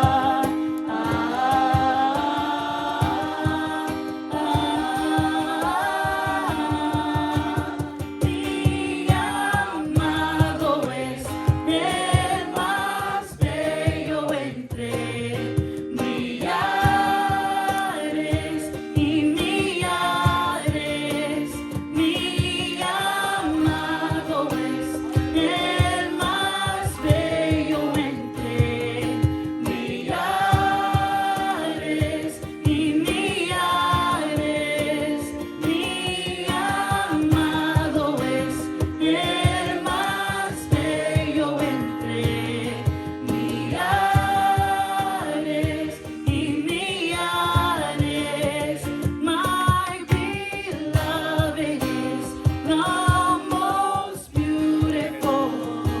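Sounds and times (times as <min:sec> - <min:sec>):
group singing worship song: 0:00.0 - 0:56.0
rhythmic instrumental accompaniment: 0:00.0 - 0:56.0.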